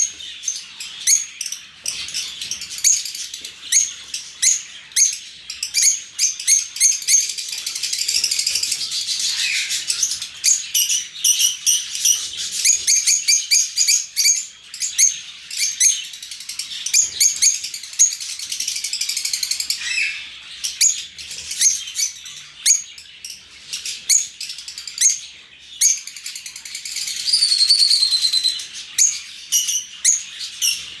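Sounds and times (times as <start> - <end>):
lovebirds chirping: 0.0 - 31.0.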